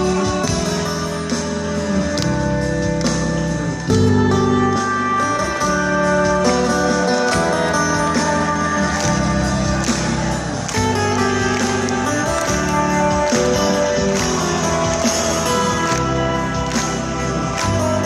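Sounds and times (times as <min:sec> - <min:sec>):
electric guitars: 0:00.0 - 0:18.0
rock band playing: 0:00.0 - 0:18.0.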